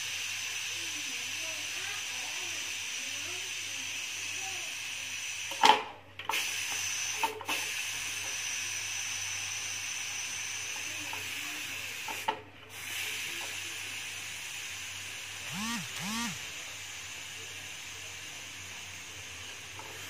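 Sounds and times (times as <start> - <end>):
pressure cooker steam hissing: 0.0 - 20.0.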